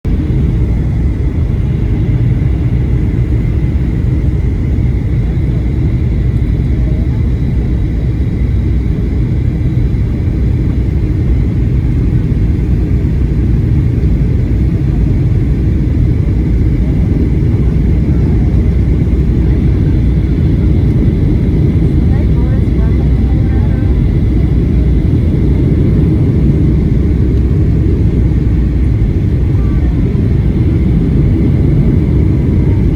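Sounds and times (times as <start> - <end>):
aircraft cabin engine rumble: 0.0 - 32.9
faint steady whine: 0.1 - 32.9.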